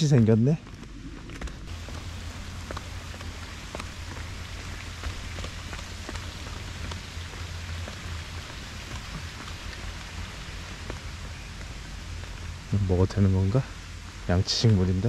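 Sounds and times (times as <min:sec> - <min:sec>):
low rumble: 0:00.0 - 0:15.0
light rain falling: 0:01.6 - 0:15.0.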